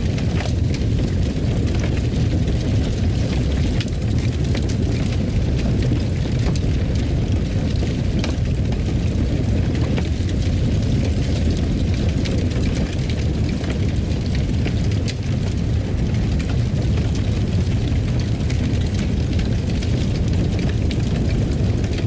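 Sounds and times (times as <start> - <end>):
fire crackling and popping: 0.0 - 22.0
wood fire rumbling: 0.0 - 22.0.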